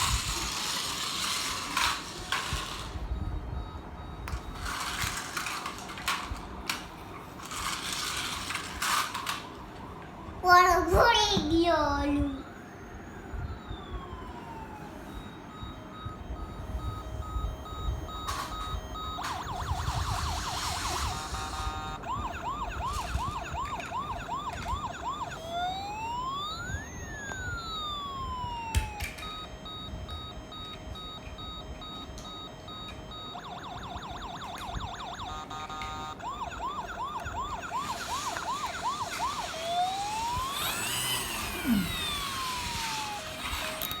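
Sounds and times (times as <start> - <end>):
electronic police siren: 0.0 - 44.0.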